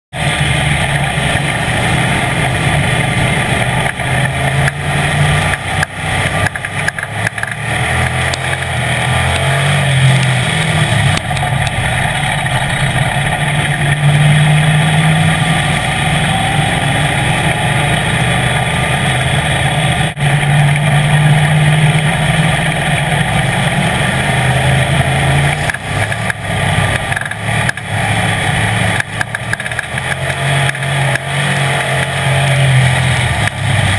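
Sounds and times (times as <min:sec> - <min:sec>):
constant rushing noise: 0:00.1 - 0:33.9
race car engine revving: 0:00.1 - 0:33.9.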